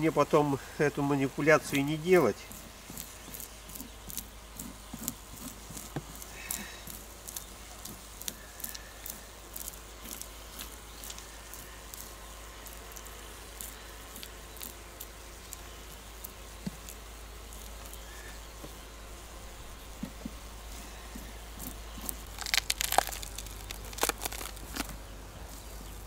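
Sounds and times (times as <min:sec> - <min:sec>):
tool scratching honeycomb: 0:00.0 - 0:26.0.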